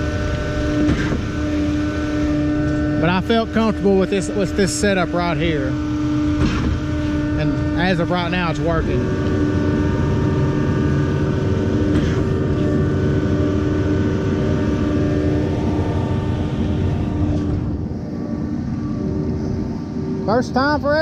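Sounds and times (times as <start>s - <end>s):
diesel engines droning: 0.0s - 21.0s.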